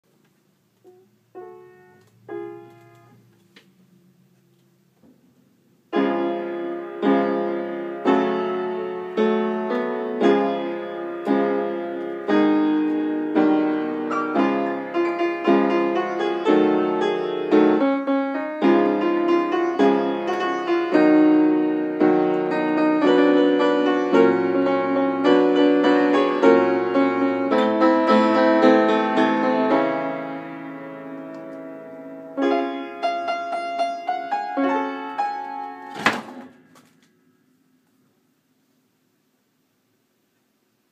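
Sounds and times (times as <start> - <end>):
soft piano notes: 0.1 - 38.3
piano chords struck: 0.9 - 3.3, 5.9 - 37.5.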